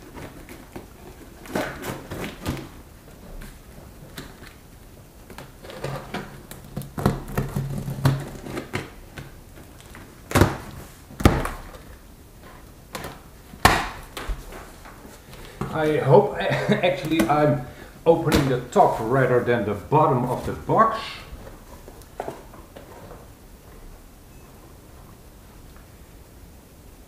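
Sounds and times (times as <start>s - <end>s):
rustling against cardboard: 0.0s - 24.0s.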